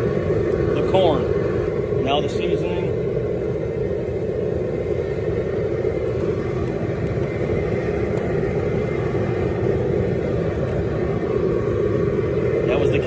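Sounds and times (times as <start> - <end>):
propane burner roaring: 0.0 - 13.0.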